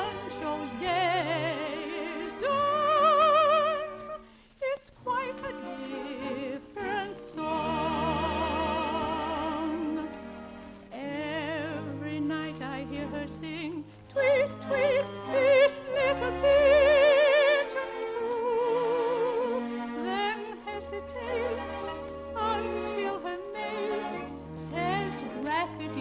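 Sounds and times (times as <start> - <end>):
high voice singing operetta: 0.0 - 10.2, 10.9 - 26.0.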